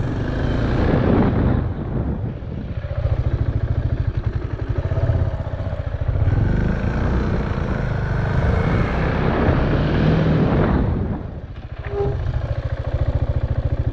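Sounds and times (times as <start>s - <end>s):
motorcycle engine under throttle: 0.0s - 13.9s
wind noise on microphone: 0.0s - 13.9s.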